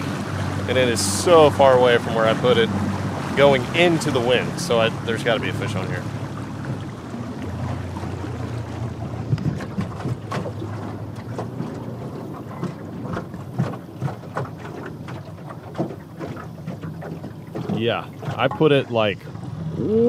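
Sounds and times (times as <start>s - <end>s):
boat rocking on choppy water: 0.0s - 20.0s.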